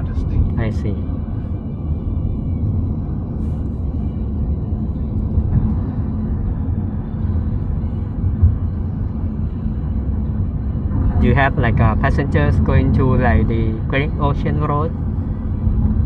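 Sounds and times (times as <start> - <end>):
car cabin tyre and engine rumble: 0.0 - 16.0.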